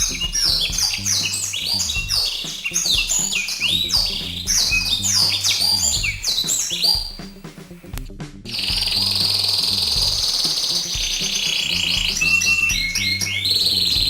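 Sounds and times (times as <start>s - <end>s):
buzzy high bird trill: 0.0s - 7.6s, 8.5s - 14.0s
high bird chirps: 0.0s - 7.6s, 8.5s - 14.0s
low repeating beat: 0.0s - 14.0s.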